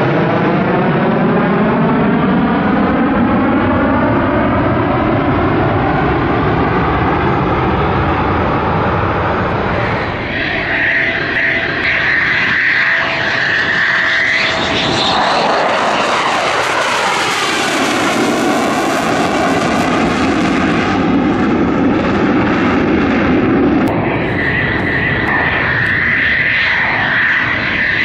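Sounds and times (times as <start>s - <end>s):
deep rushing jet noise: 0.0s - 28.0s
jet engines whining: 0.0s - 28.0s.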